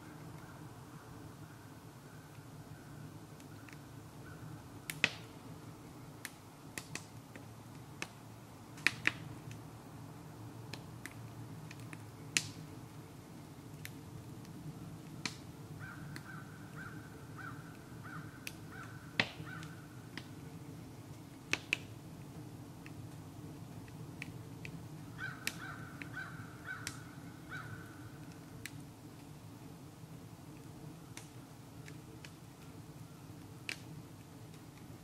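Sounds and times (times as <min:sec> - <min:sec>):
wood fire crackling: 0:00.0 - 0:35.0
fire snaps and pops: 0:03.3 - 0:04.1, 0:04.8 - 0:09.8, 0:10.6 - 0:16.9, 0:17.7 - 0:35.0.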